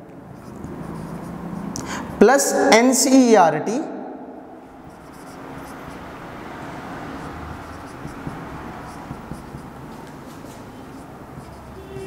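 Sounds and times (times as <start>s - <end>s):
marker writing on whiteboard: 0.0s - 3.2s, 4.5s - 12.0s.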